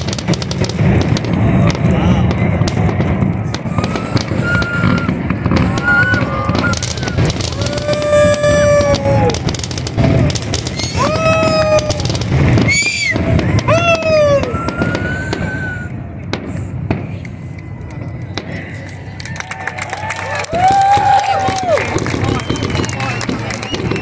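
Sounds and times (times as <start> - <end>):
crowd whooping: 0.0 - 16.2, 17.2 - 24.0
fireworks bangs and crackles: 0.0 - 24.0.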